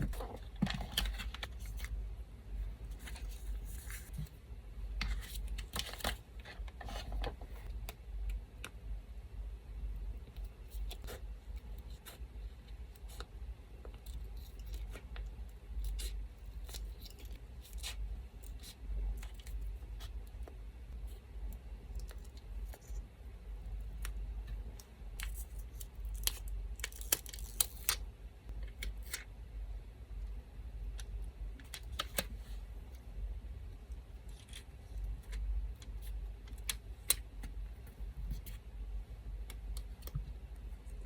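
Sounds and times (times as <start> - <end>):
electric fan hum: 0.0 - 41.0.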